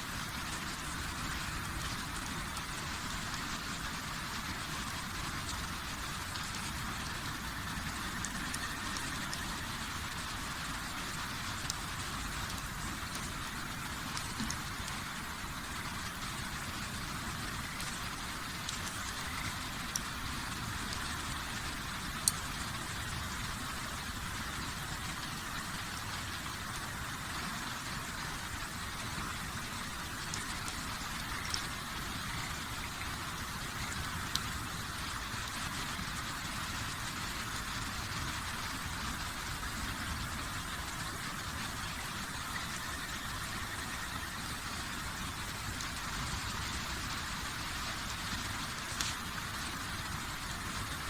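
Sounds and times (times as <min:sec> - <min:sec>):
campfire burning: 0:00.0 - 0:51.0
fire crackles: 0:00.0 - 0:51.0.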